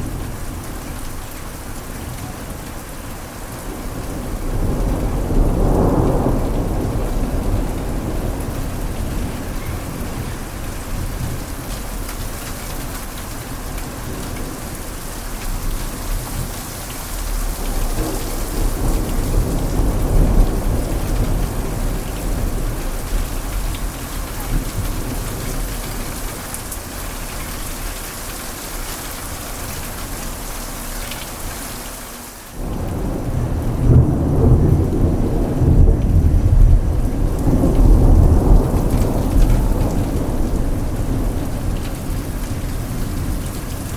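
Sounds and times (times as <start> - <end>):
rain hissing: 0.0 - 43.9
rolling thunder: 3.6 - 30.8, 32.6 - 43.9.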